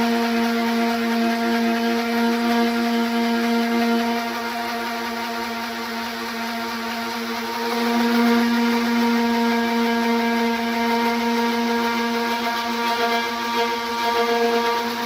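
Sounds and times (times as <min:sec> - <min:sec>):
orbital sander motor hum: 0:00.0 - 0:15.0.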